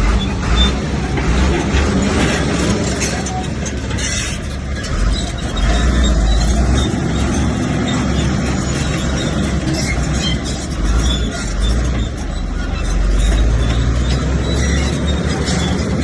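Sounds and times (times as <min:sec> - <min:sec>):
bulldozer diesel engine rumbling: 0:00.0 - 0:16.0.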